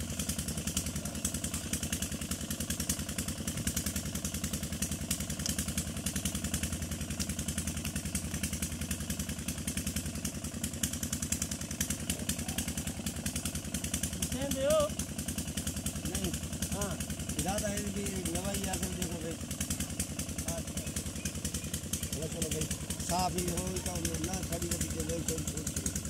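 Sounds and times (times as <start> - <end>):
engine idling with thudding beat: 0.0 - 26.0.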